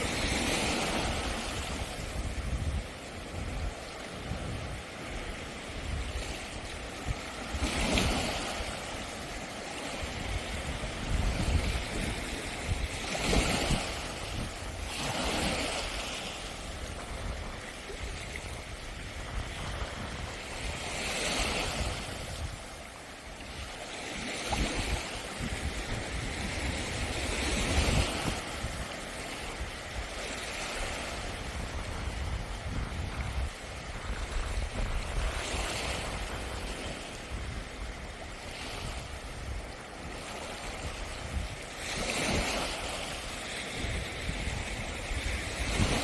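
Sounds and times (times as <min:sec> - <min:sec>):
waves washing over pebbles: 0:00.0 - 0:46.0
wind rumble on microphone: 0:00.0 - 0:46.0.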